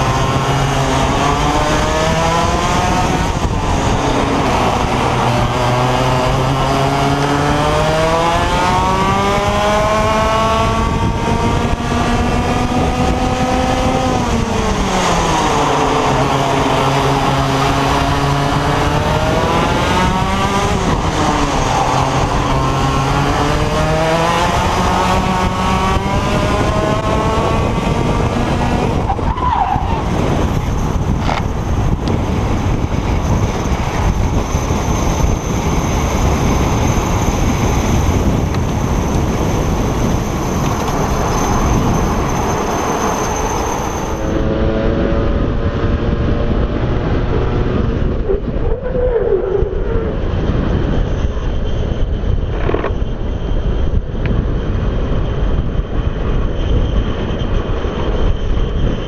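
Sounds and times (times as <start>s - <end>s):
kart engine at racing speed: 0.0s - 59.0s.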